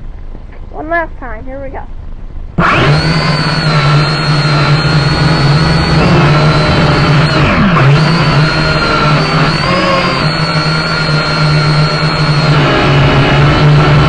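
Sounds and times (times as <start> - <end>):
drone motors buzzing whine: 2.6 - 14.0.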